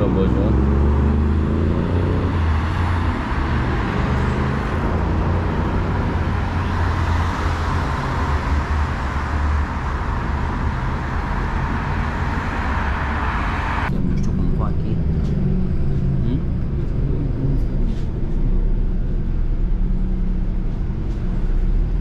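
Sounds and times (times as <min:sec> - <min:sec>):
bus engine rumble: 0:00.0 - 0:22.0
road and tyre noise: 0:00.0 - 0:22.0.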